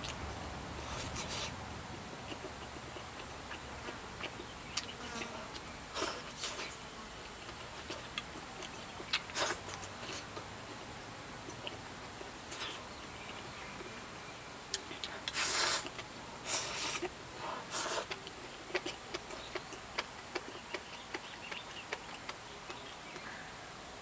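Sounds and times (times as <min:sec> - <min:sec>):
chewing and mouth clicks: 0:00.9 - 0:14.0, 0:14.7 - 0:23.3.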